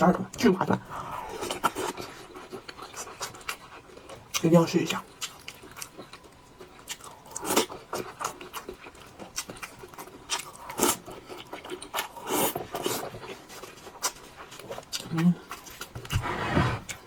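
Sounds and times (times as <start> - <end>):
person chewing noodles: 0.8 - 17.0.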